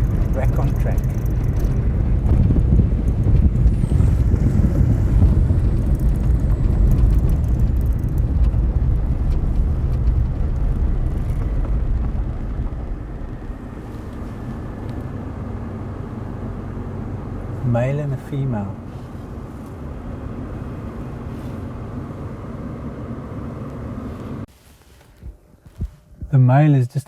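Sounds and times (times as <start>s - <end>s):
vehicle driving on gravel: 0.0s - 25.0s.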